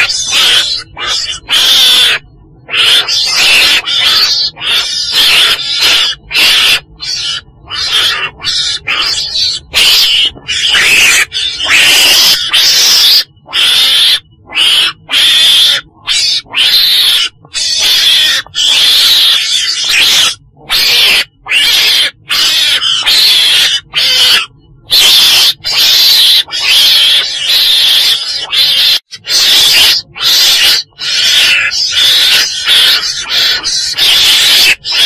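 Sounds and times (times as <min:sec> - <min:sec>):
weasel raspy calls: 0:00.0 - 0:35.0.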